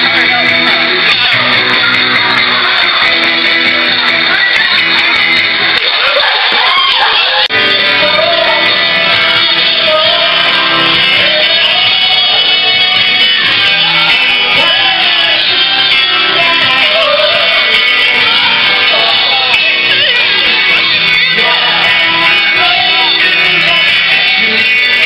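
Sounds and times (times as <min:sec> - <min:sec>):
guitar: 0:00.0 - 0:25.0
live rock band playing: 0:00.0 - 0:25.0
person singing: 0:00.0 - 0:25.0.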